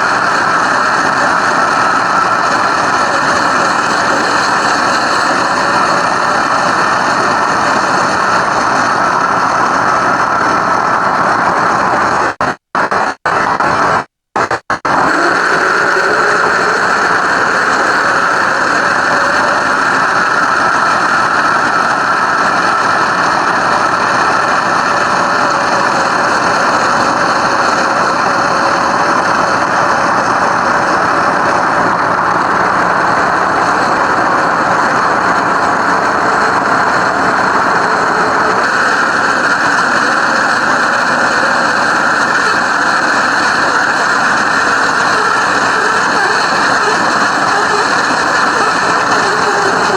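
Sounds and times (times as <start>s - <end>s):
simulated car engine sound: 0.0s - 49.9s.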